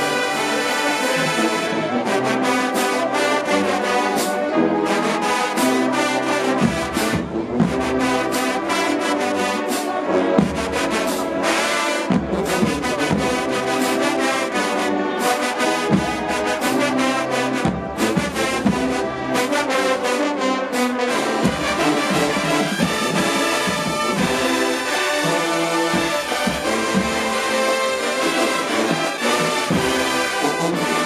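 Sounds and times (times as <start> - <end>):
drumline hits: 0.0 - 31.0
marching band brass: 0.0 - 31.0.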